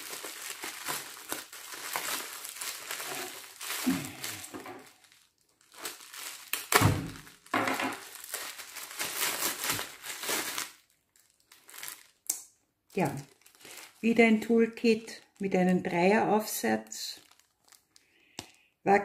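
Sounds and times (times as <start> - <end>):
bubble wrap crinkling: 0.0 - 18.8.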